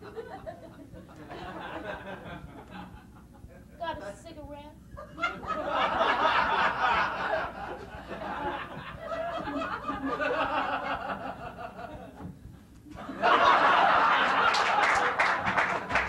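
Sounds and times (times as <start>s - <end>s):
audience laughing: 0.0s - 3.0s, 5.0s - 12.2s, 12.9s - 16.0s.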